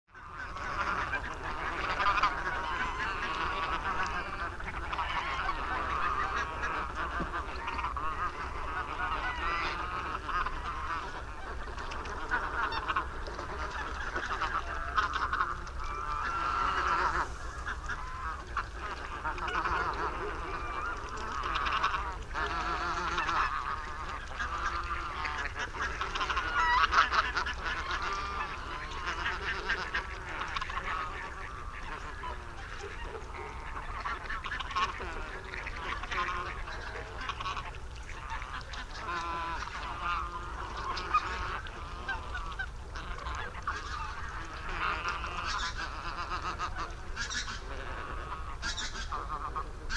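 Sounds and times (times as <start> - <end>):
geese honking: 0.1 - 49.9.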